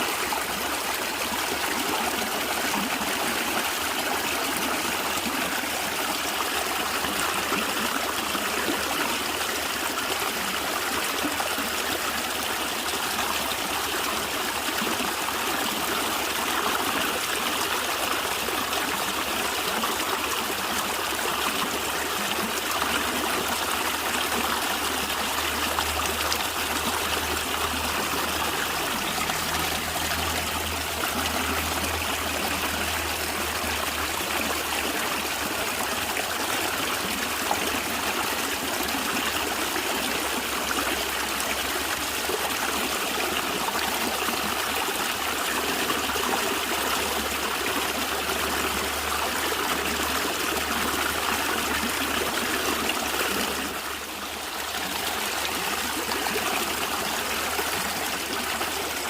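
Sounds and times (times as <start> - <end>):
stream gurgling over stones: 0.0 - 59.0.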